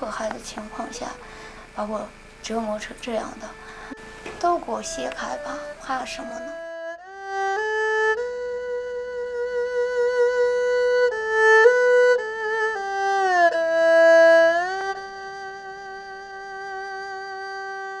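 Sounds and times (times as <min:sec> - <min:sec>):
bowed string melody: 0:00.0 - 0:18.0.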